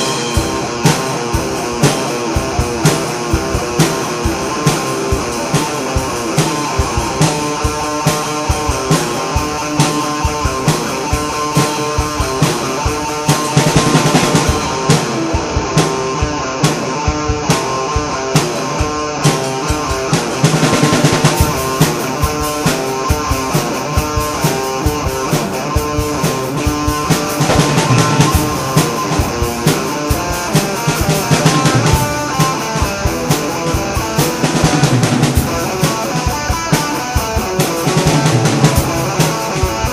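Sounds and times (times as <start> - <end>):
drum kit beat: 0.0 - 39.9
rock guitar: 0.0 - 39.9.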